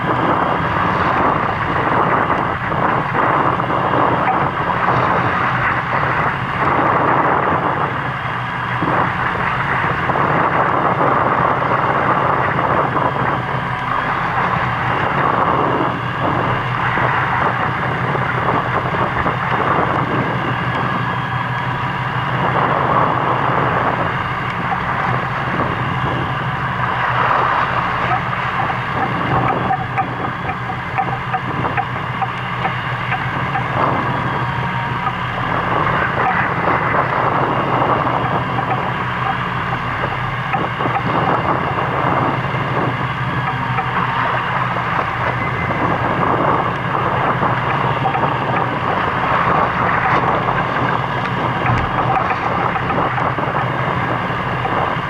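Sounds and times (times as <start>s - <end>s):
boat engine humming: 0.0s - 55.0s
wind and water rushing: 0.0s - 55.0s.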